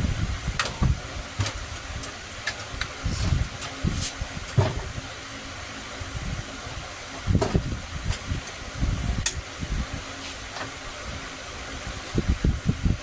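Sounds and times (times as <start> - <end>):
fan-like whir: 0.0 - 13.0.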